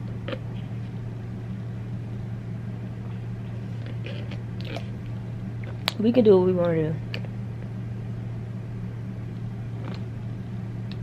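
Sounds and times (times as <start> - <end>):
air unit humming: 0.0 - 11.0.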